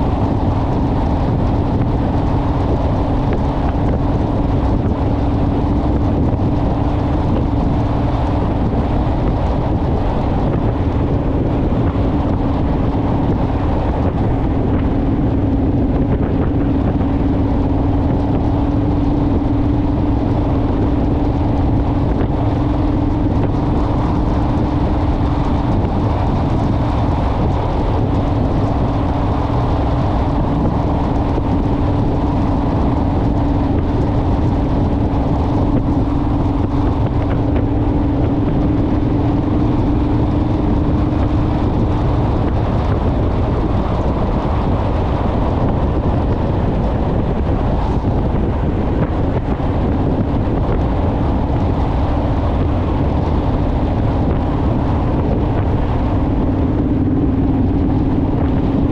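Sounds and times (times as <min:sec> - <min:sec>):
motorcycle engine cruising: 0:00.0 - 0:58.9
wind rush on microphone: 0:00.0 - 0:58.9.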